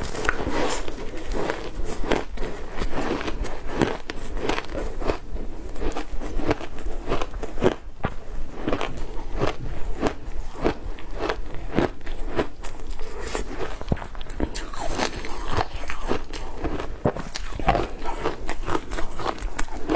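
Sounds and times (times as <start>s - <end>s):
ice being chewed crunching: 0.0s - 19.9s.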